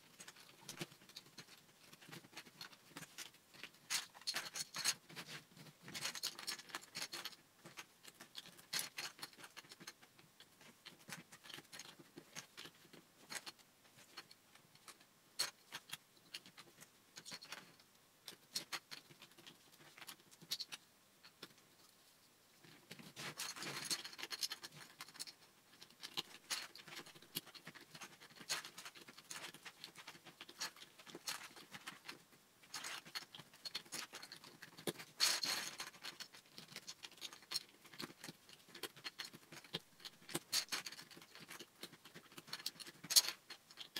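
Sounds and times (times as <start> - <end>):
plastic bricks clicking and rattling: 0.1 - 10.0, 10.6 - 21.6, 22.7 - 43.9.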